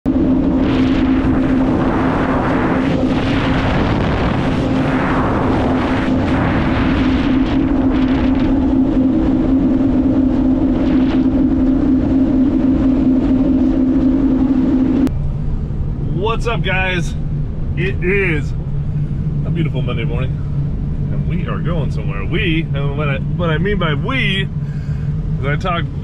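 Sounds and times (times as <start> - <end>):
watercraft engine drone: 0.0 - 26.0.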